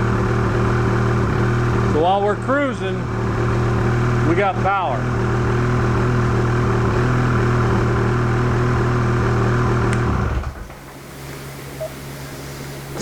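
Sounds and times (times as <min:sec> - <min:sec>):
snowmobile engine running: 0:00.0 - 0:10.4
low engine hum: 0:00.0 - 0:13.0.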